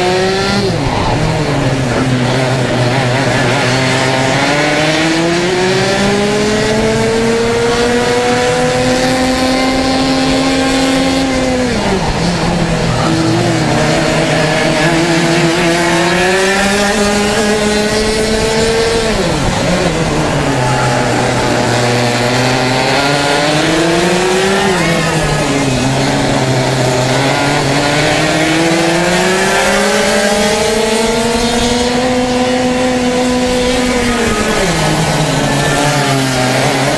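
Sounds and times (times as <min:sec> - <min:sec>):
racing kart engine revving: 0:00.0 - 0:36.9.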